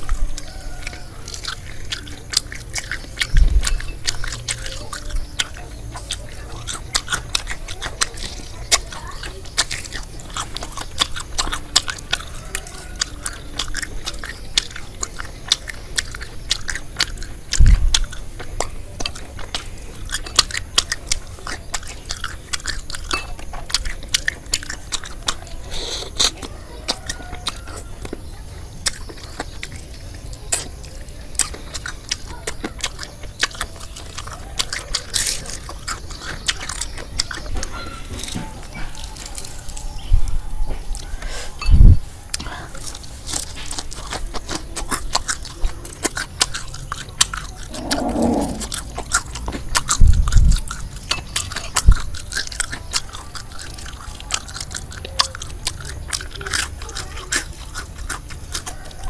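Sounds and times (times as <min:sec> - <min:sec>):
chewing crispy fried food: 0:00.0 - 0:59.0.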